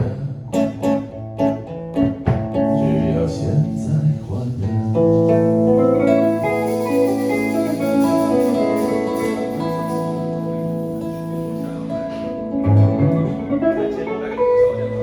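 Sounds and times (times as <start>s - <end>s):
acoustic guitar: 0.0s - 15.0s
electric guitar: 0.0s - 15.0s.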